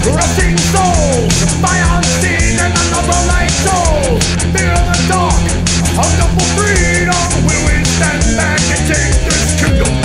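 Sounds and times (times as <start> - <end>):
band music: 0.0 - 10.0
drum hits: 0.2 - 9.3.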